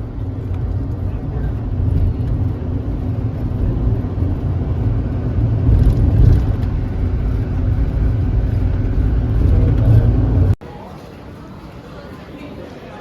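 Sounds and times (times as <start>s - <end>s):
engine and road noise: 0.0s - 10.6s.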